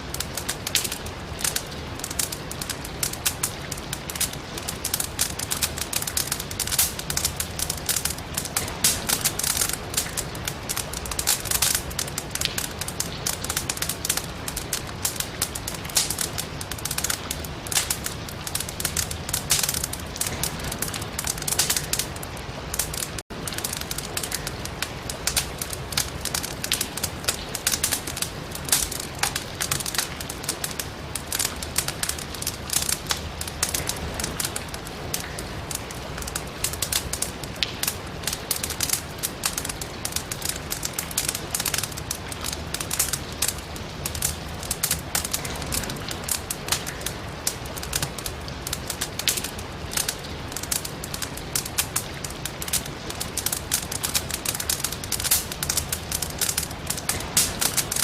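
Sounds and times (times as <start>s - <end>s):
fire crackling and popping: 0.0s - 58.0s
rain rushing: 0.0s - 58.0s.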